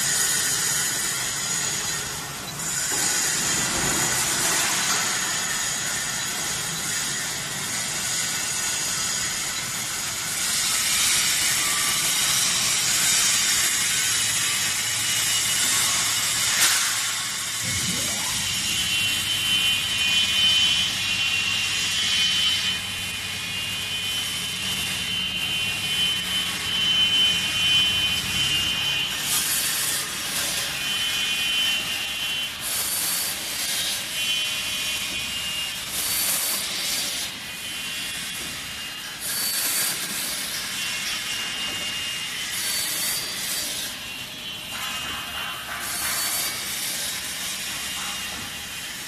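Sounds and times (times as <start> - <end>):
saw rasping through wood: 0.0 - 20.2, 28.9 - 49.0
electric saw whine: 0.0 - 44.8.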